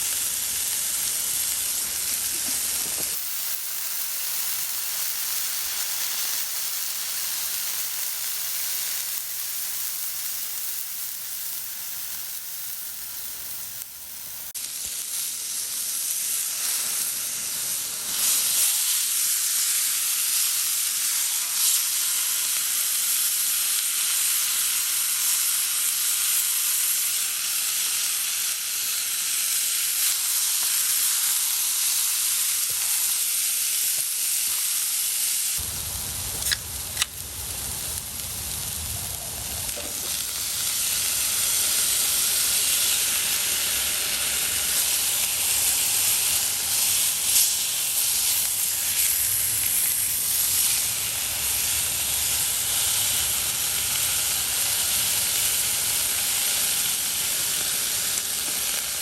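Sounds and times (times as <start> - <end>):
food sizzling on a grill: 0.0 - 59.0.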